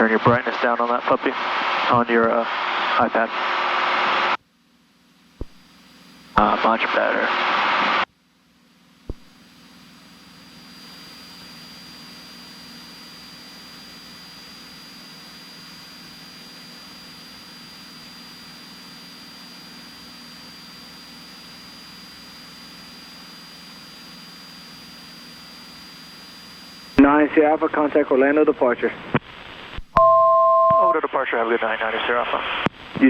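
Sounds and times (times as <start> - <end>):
airplane engine droning in cockpit: 0.0 - 4.4, 5.0 - 29.1
faint high whine: 0.0 - 33.0.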